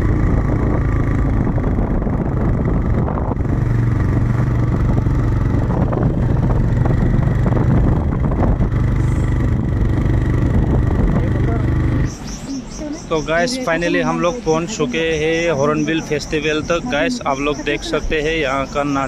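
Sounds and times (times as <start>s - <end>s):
road noise: 0.0s - 19.0s
vehicle engine droning: 0.0s - 19.0s.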